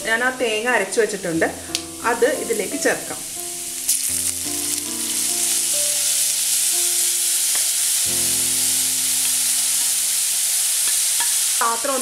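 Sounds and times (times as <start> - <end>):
soft background music: 0.0 - 12.0
paste sizzling in hot oil: 1.0 - 12.0.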